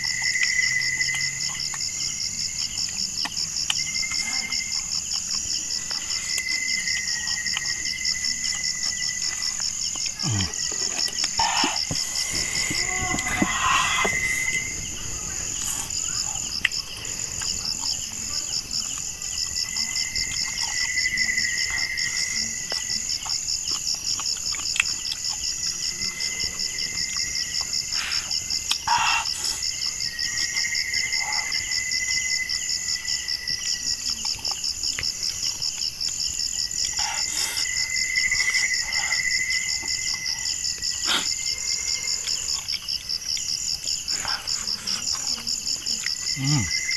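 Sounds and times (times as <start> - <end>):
constant high hiss: 0.0 - 46.9
insects trilling: 0.0 - 46.9
lower insect call: 0.0 - 46.9.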